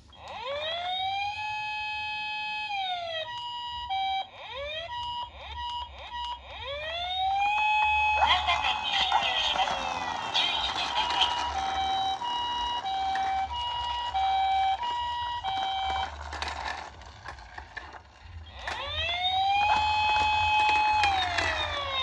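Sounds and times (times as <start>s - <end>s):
toy ambulance siren: 0.1s - 22.0s.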